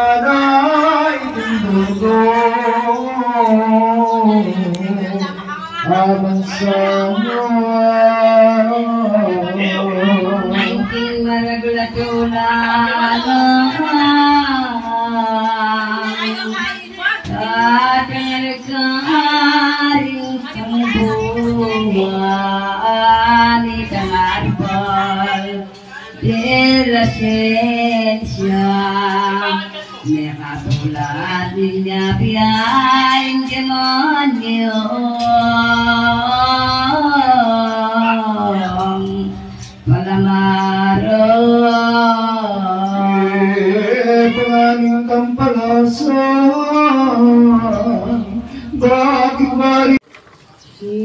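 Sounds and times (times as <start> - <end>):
woman singing: 0.0 - 50.0, 50.8 - 51.0.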